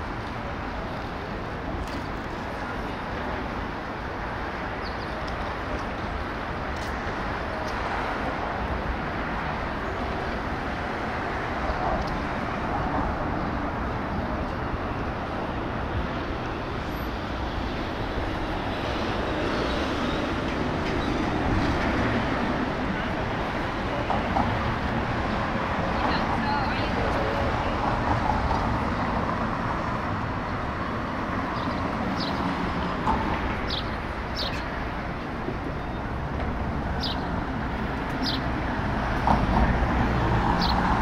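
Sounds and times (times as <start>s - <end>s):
city traffic hum: 0.0s - 41.0s.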